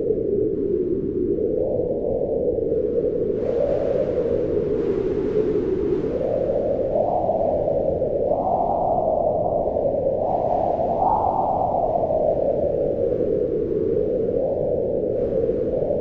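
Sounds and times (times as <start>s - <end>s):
strong wind howling: 0.0s - 16.0s.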